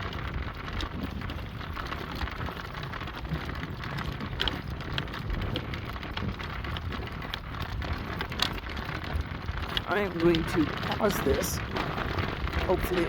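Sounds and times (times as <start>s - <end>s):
cart wheels rattling: 0.0s - 13.0s
hooves and harness clicking: 0.0s - 13.0s.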